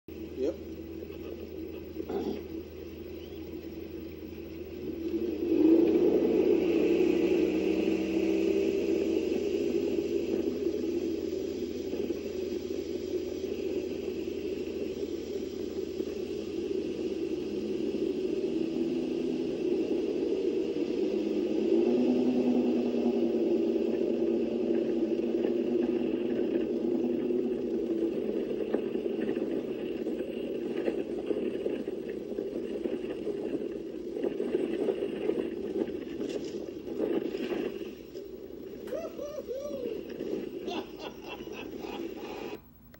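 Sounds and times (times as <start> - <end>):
hull on water: 0.1 - 42.6
outboard motor: 0.1 - 42.6
wind: 0.1 - 42.6.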